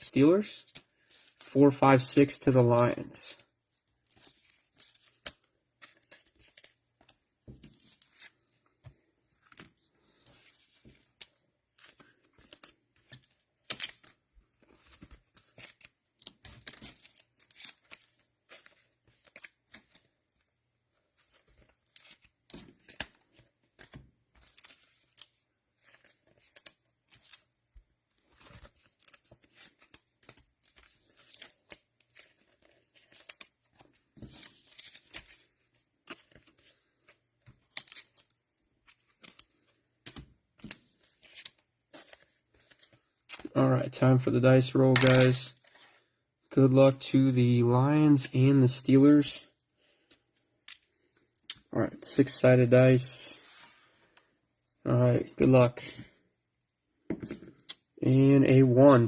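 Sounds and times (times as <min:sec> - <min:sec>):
cards and plastic wrappers rustling: 0:00.0 - 0:56.2.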